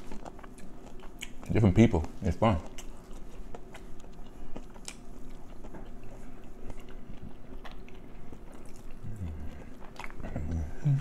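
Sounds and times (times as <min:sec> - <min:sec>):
chewing with wet smacks: 0:00.0 - 0:11.0
faint low hum: 0:00.0 - 0:11.0.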